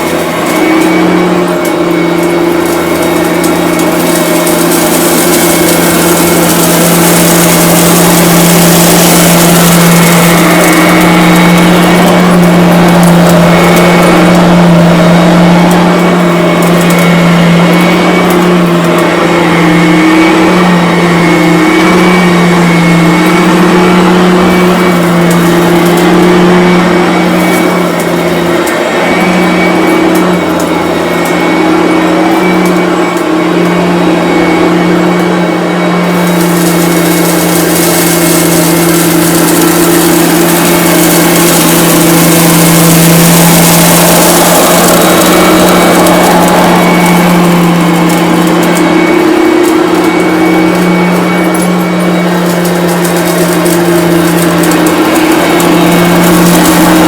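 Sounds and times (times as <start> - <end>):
vacuum cleaner running on carpet: 0.0 - 57.0.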